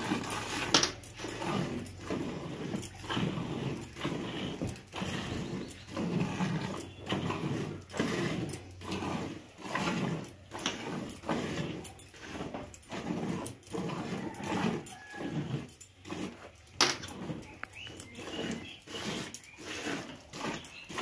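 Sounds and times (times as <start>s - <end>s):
milk squirting into a bucket: 0.0s - 21.0s.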